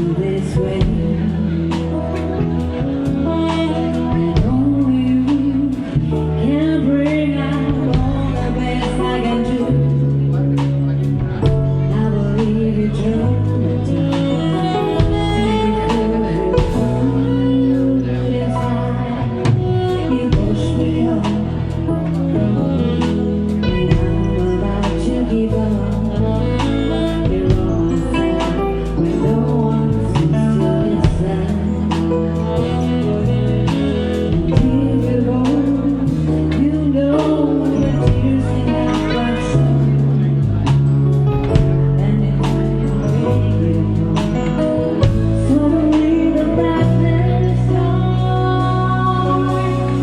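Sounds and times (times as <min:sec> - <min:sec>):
bass line: 0:00.0 - 0:50.0
guitar: 0:00.0 - 0:50.0
live band music: 0:00.0 - 0:50.0.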